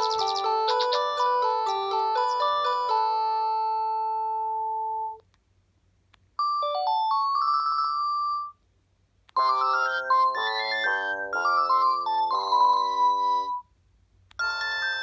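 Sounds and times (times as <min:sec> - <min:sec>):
phone ringtones: 0:00.0 - 0:05.2, 0:06.4 - 0:08.6, 0:09.4 - 0:13.6, 0:14.4 - 0:15.0
polyphonic ringtone melody: 0:00.0 - 0:05.2, 0:06.4 - 0:08.6, 0:09.4 - 0:13.6, 0:14.4 - 0:15.0.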